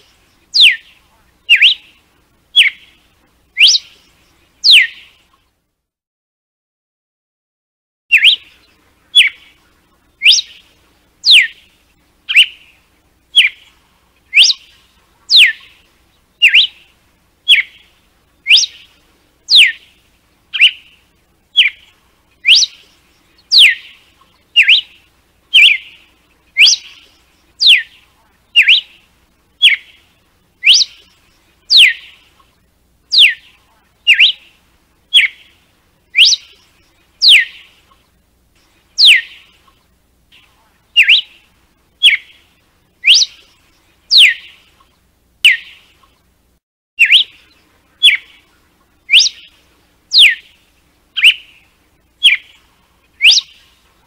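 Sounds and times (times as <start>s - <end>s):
bird singing whistled notes: 0.0s - 5.5s, 8.1s - 39.8s, 40.4s - 46.2s, 47.0s - 53.8s.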